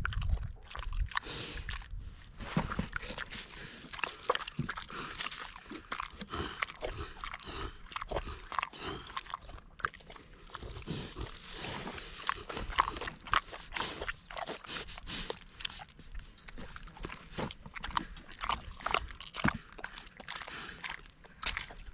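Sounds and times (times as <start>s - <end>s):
pig chewing wetly: 0.0s - 21.9s.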